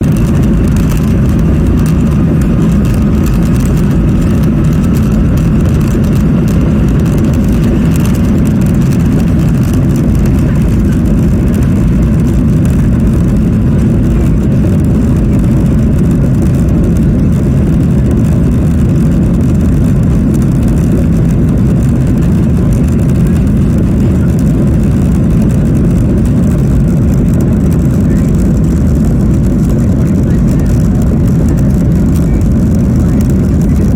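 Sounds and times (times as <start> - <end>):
faint engine whine: 0.0 - 33.9
jet engines rumbling in cabin: 0.0 - 33.9.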